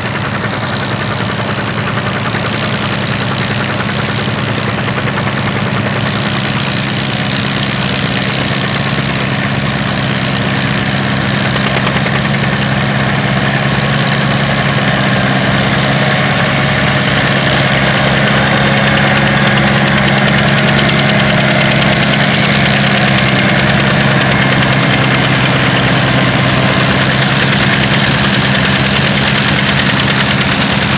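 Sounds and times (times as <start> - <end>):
tractor engine under load: 0.0 - 30.9.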